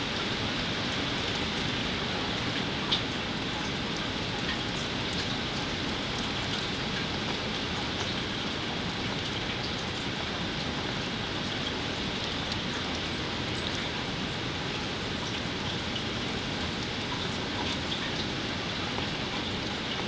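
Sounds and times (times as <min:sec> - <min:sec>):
storm rain falling: 0:00.0 - 0:20.0.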